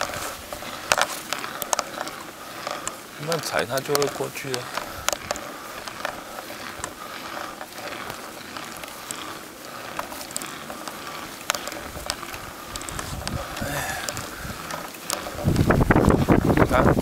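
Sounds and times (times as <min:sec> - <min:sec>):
bicycle drivetrain clicks and rattles: 0:00.0 - 0:17.0
steady rustle: 0:00.0 - 0:17.0.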